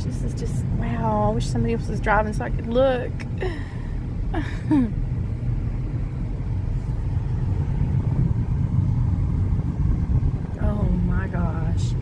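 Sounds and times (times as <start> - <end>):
car engine and road noise rumble: 0.0 - 12.0.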